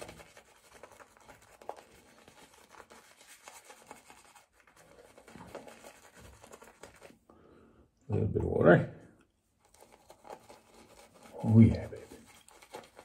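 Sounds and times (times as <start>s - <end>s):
shaving brush scratching lather: 0.0s - 7.2s, 9.6s - 13.0s.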